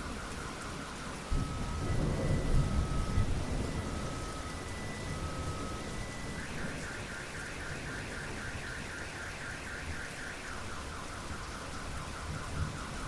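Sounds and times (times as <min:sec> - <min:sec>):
car alarm warbling: 0:00.0 - 0:13.0
heavy rain: 0:00.0 - 0:13.0.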